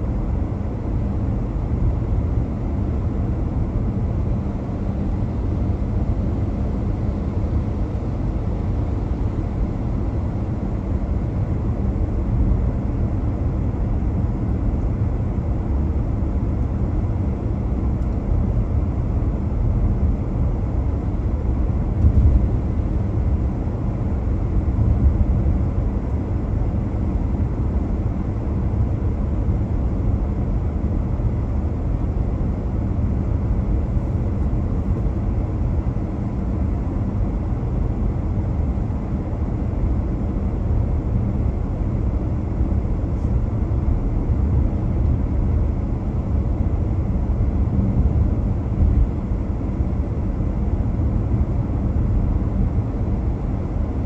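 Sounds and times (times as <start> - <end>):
car engine and tyre rumble: 0.0 - 54.0
faint steady hum: 0.0 - 54.0.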